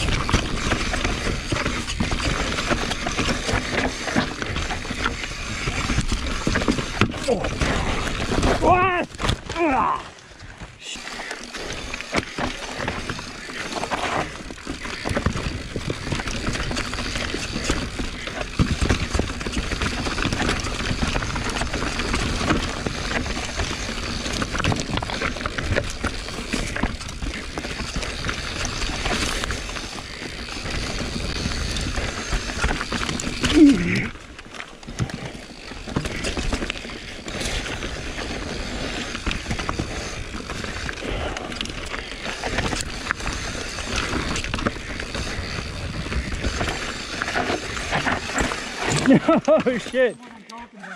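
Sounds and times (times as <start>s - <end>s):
bike knocks and rattles: 0.0s - 9.8s, 11.4s - 50.0s
bike tyres on dirt trail: 0.0s - 50.9s.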